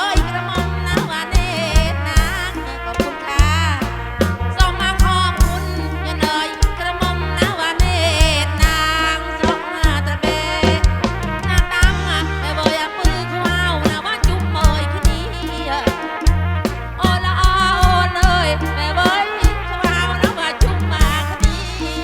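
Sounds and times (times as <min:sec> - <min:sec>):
folk dance music over sound system: 0:00.0 - 0:22.0
heavy bass line: 0:00.0 - 0:22.0
punchy drum beat: 0:00.0 - 0:22.0.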